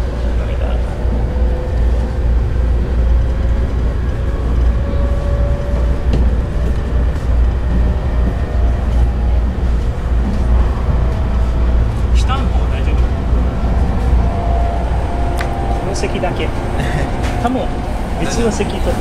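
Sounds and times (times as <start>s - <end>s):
train cabin rumble: 0.0s - 19.0s.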